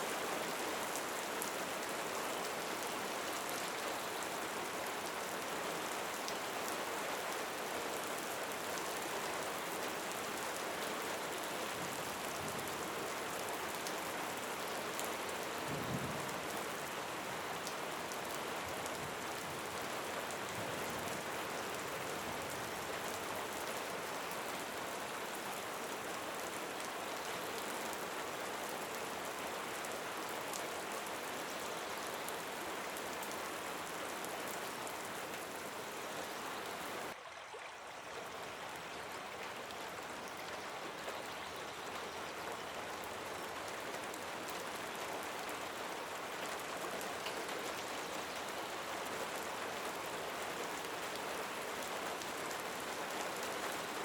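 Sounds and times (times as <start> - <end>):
steady rain falling: 0.0 - 37.2, 38.0 - 54.0.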